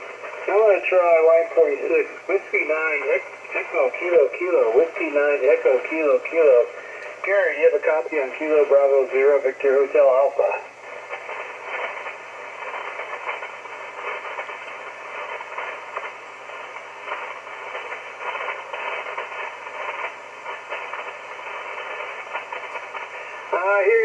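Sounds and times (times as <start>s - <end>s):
faint static crackles: 0.0s - 24.0s
radio band noise hiss: 0.0s - 24.0s.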